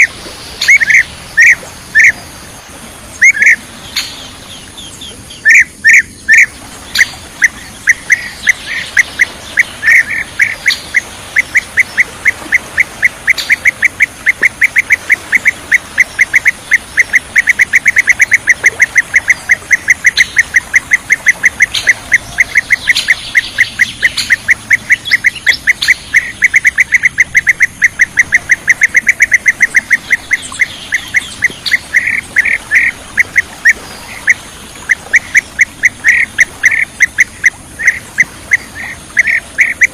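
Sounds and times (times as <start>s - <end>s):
bird chirping rapidly: 0.0s - 2.2s, 3.2s - 39.9s.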